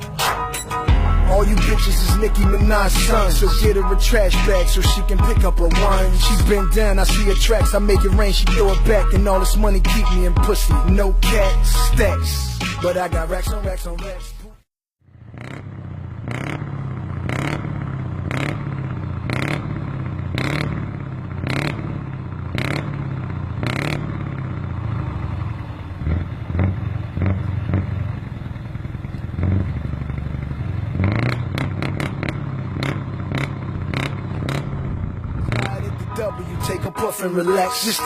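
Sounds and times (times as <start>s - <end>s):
diesel truck engine running: 0.0s - 14.4s, 15.3s - 38.0s.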